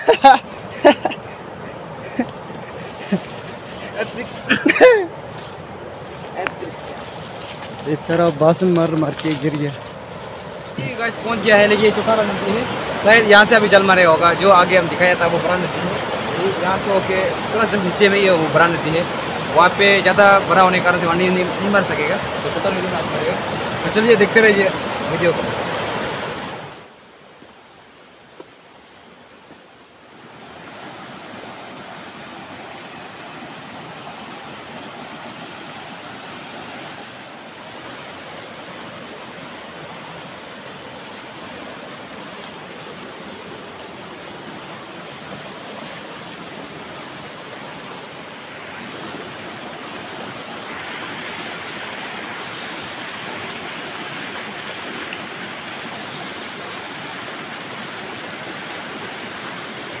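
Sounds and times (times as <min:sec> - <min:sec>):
river rapids rushing over boulders: 0:00.0 - 1:00.0.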